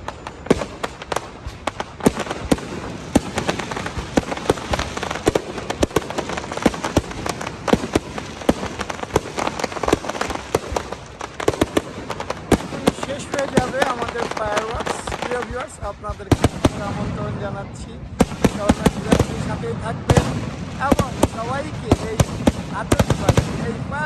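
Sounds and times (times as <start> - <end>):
continuous crackling hiss: 0.0 - 24.0
fireworks bangs and crackles: 0.0 - 24.0.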